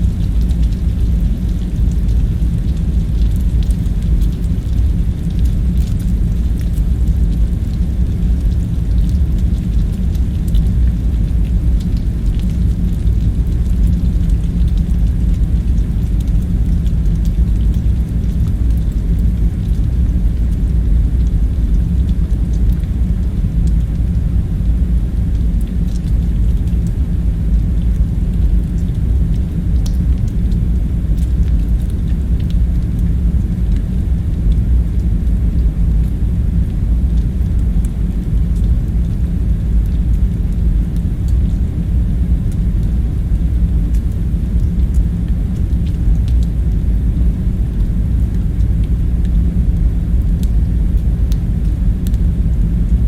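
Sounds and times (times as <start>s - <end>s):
low background rumble: 0.0s - 53.0s.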